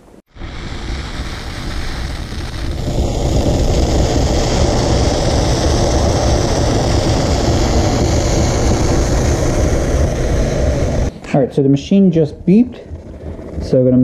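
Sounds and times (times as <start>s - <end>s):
steam venting hiss: 0.0s - 13.9s.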